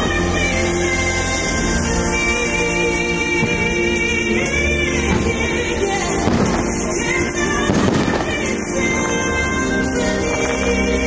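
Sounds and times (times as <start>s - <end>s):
fireworks bursting and crackling: 0.0s - 11.0s
music with singing voices: 0.0s - 11.0s.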